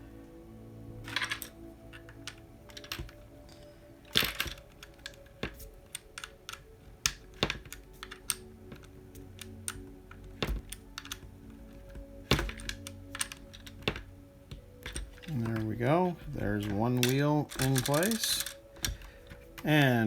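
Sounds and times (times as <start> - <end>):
plastic and metal clicks: 1.0 - 19.7.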